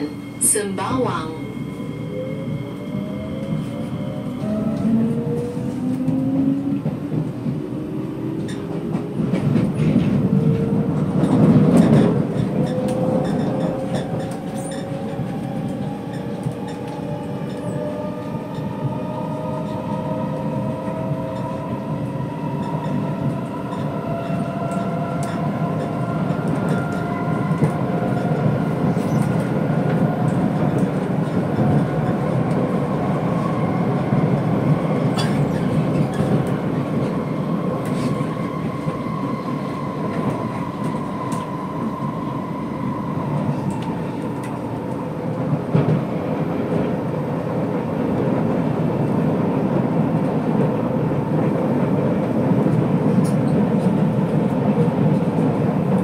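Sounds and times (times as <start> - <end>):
wheels rumbling on track: 0.0 - 56.0.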